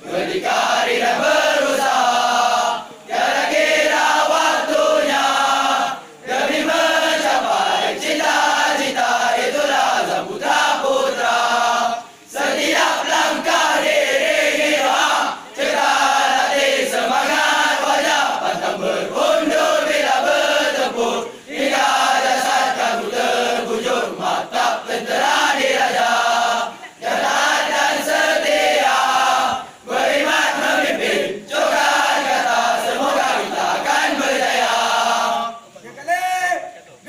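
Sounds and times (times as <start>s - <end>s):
boys choir singing: 0.0s - 35.8s.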